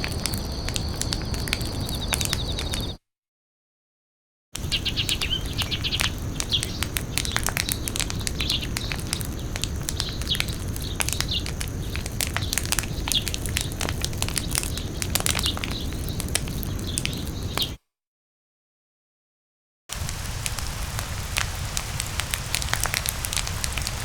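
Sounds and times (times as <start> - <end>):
sharp crackling clicks: 0.0 - 3.0, 4.6 - 17.8, 19.9 - 24.0.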